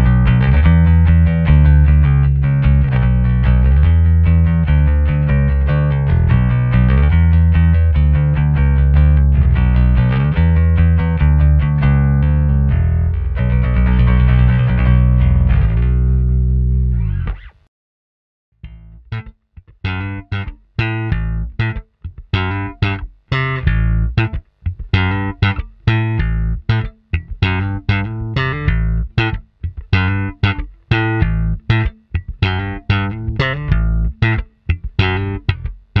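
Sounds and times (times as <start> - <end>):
electric bass plucked notes: 0.0 - 17.7, 18.6 - 36.0.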